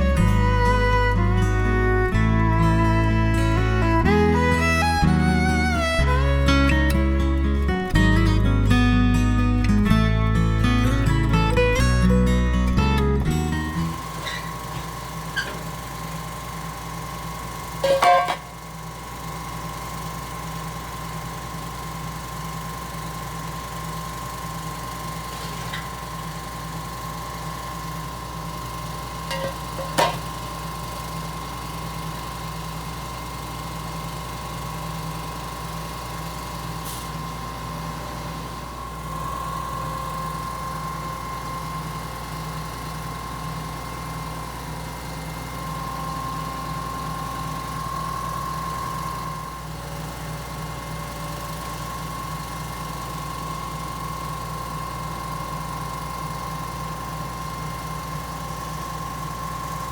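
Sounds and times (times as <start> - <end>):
constant high whine: 0.0 - 53.5
diesel engine drone: 0.0 - 56.1.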